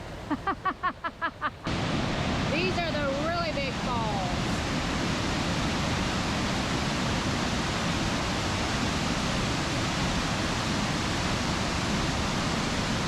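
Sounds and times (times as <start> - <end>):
waterfall rushing: 1.3 - 13.0.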